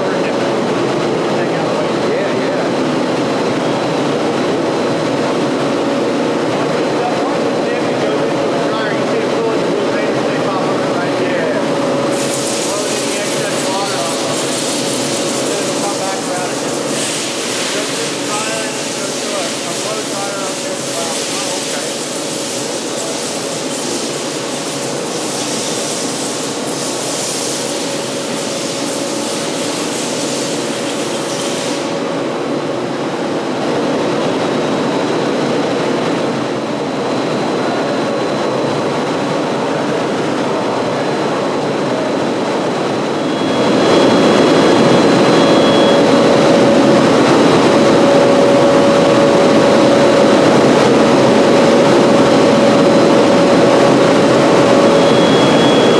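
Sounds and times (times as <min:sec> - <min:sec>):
factory machinery din: 0:00.0 - 0:55.9.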